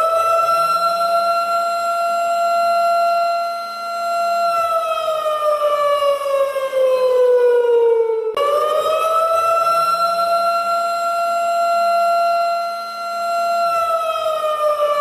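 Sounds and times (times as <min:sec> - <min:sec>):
warning siren: 0:00.0 - 0:15.0.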